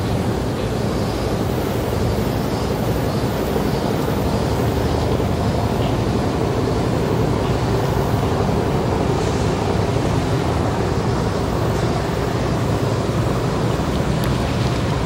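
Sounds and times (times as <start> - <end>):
boat engine drone: 0.0 - 15.0
rush of boat wake: 0.0 - 15.0.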